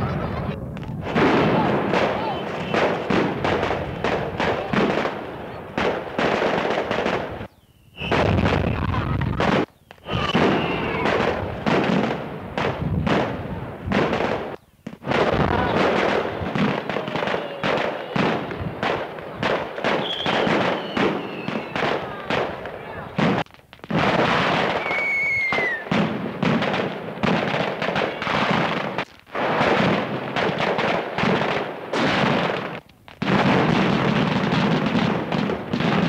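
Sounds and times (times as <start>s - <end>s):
firecrackers crackling bangs: 0.0s - 36.0s.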